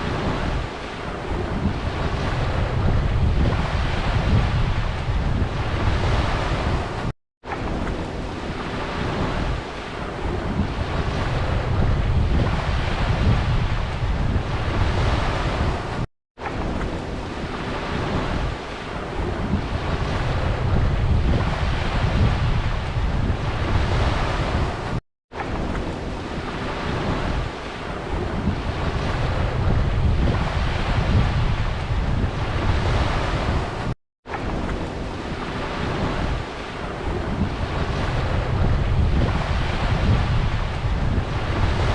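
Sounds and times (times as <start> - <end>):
ocean waves washing onto shore: 0.0 - 41.9
wind buffeting microphone: 0.0 - 41.9.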